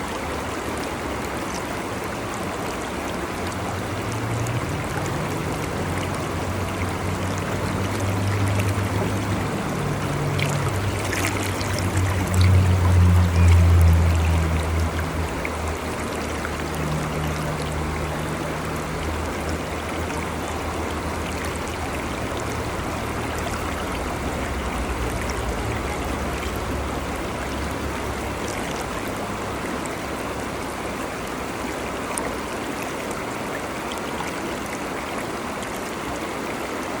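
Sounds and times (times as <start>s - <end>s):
stream water running: 0.0s - 37.0s.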